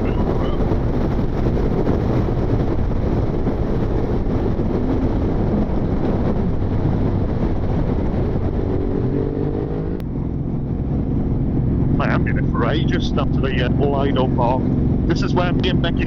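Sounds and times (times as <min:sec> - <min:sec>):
motorcycle engine and road noise: 0:00.0 - 0:16.0
wind rush: 0:00.0 - 0:16.0.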